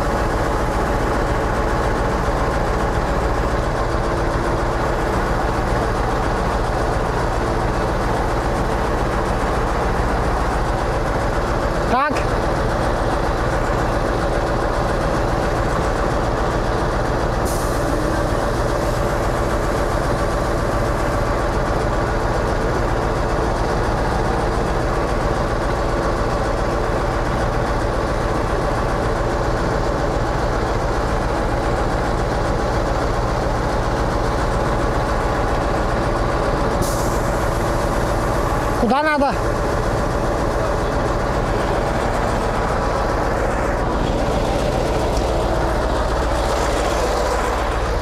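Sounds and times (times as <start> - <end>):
diesel engine running steadily: 0.0 - 48.0.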